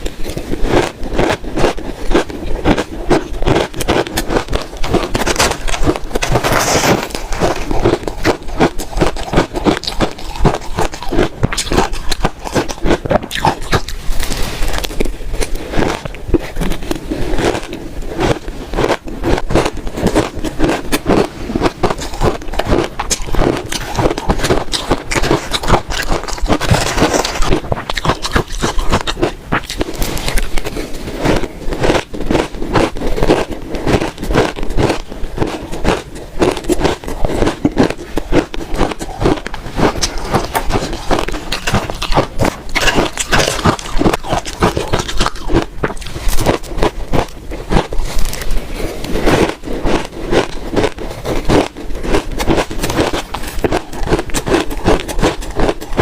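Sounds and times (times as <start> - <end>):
crunching of shaved ice being chewed: 0.0 - 56.0.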